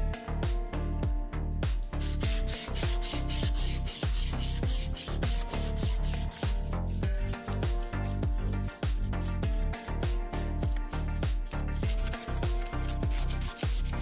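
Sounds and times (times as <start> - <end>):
background music with beat: 0.0 - 14.0
sanding sponge on knife blade: 2.0 - 14.0.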